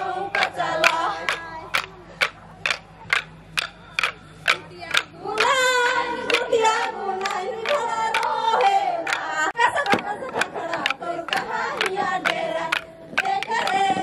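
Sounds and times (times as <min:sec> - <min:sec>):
group singing: 0:00.0 - 0:14.0
wooden sticks clacking: 0:00.0 - 0:14.0.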